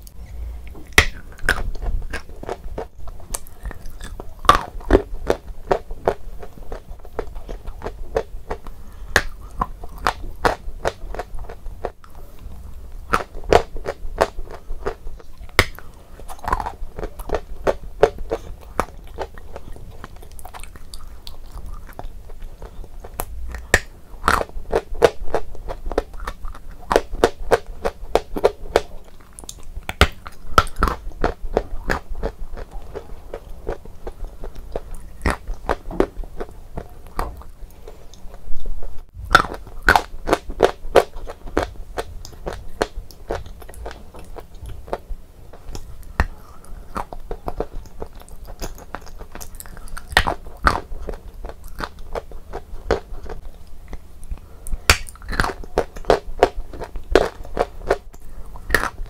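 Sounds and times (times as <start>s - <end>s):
chewing: 0.0s - 59.0s.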